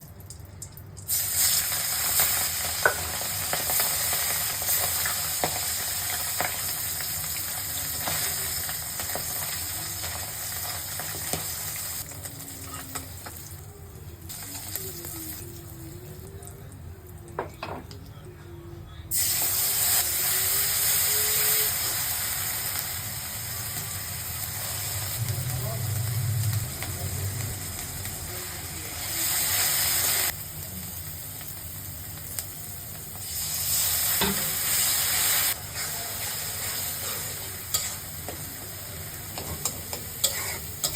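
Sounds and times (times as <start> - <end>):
food sizzling in oil: 1.0 - 16.5, 19.1 - 40.9.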